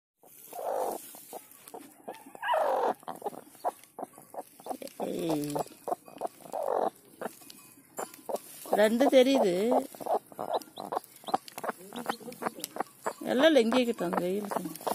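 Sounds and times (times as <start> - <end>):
straw rustling and crackling: 0.2 - 14.9
hen clucking harshly: 0.3 - 14.9.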